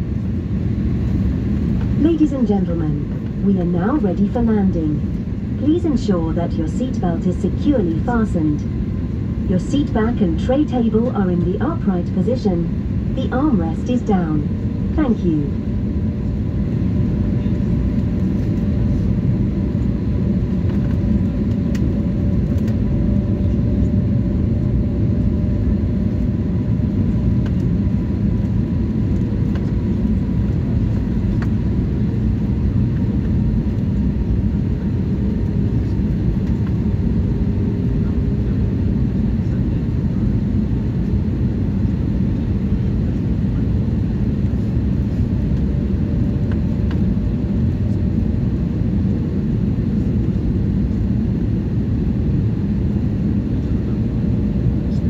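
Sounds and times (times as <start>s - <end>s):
faint hum tones: 0.0s - 55.0s
jet engines and rushing air: 0.0s - 55.0s.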